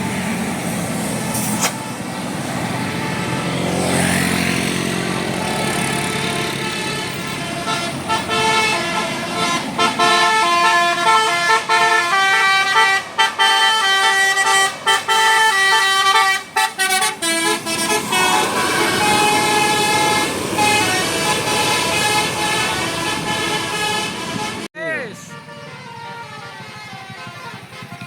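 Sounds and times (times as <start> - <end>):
bus horn playing a tune: 1.4 - 28.0.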